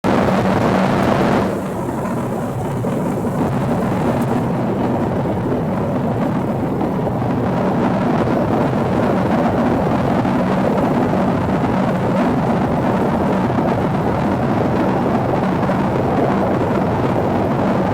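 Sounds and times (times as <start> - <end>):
jet cabin engine and airflow rumble: 0.1 - 17.9.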